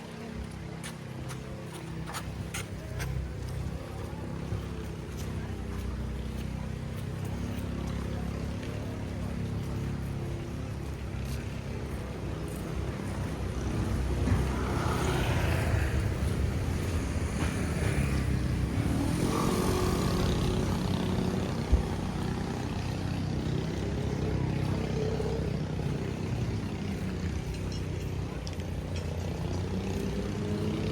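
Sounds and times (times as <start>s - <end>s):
vehicle engines passing by: 0.0s - 30.9s.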